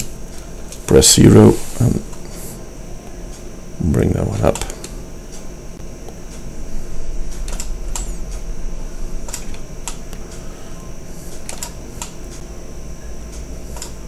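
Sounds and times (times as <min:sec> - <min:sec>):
faint high whine: 0:00.0 - 0:14.0
low electrical hum: 0:00.0 - 0:14.0.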